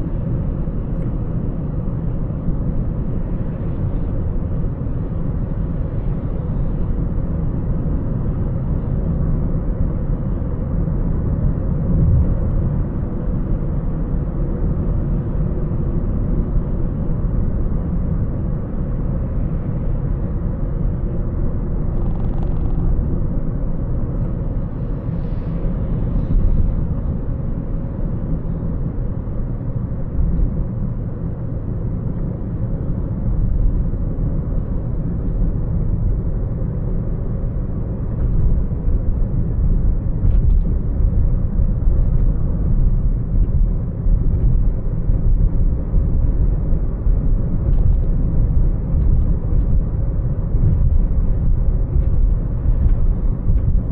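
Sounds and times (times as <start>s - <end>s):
car road and engine rumble: 0.0s - 53.9s.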